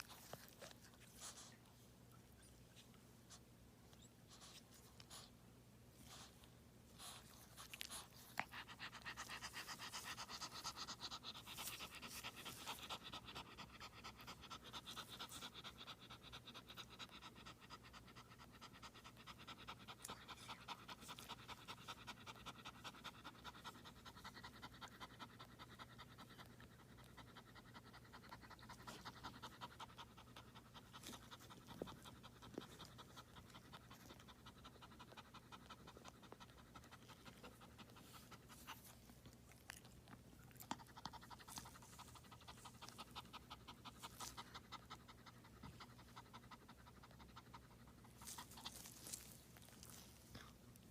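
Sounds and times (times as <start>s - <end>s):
dog panting rapidly: 6.0s - 39.2s, 40.5s - 49.4s.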